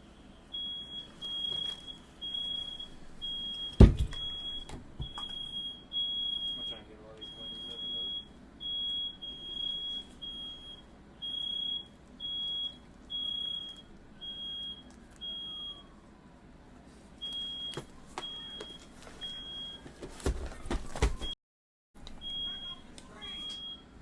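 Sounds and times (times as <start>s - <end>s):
smoke alarm beeping: 0.0s - 16.0s, 17.2s - 19.9s, 22.2s - 24.0s.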